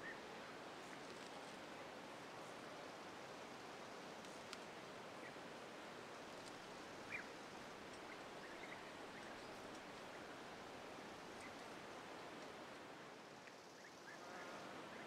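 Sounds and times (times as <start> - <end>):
faint outdoor background hiss: 0.0 - 15.0.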